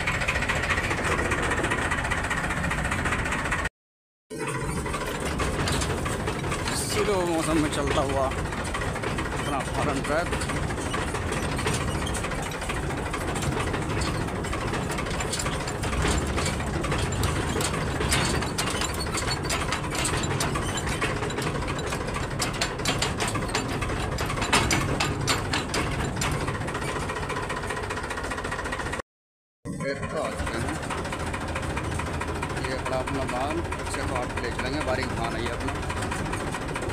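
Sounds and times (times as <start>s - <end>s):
hitch rattling and clanking: 0.0s - 3.7s, 4.4s - 29.0s, 29.8s - 36.9s
tractor diesel engine running: 0.0s - 3.7s, 4.3s - 29.0s, 29.7s - 36.9s.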